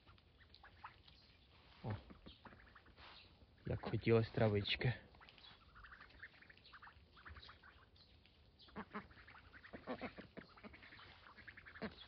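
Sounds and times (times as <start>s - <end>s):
ducks quacking faintly: 0.0s - 12.0s.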